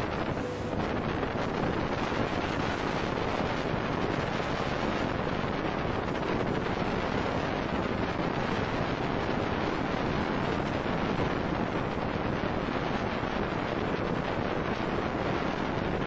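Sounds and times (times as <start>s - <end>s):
choppy water rushing: 0.0s - 16.0s
wind buffeting microphone: 0.0s - 16.0s.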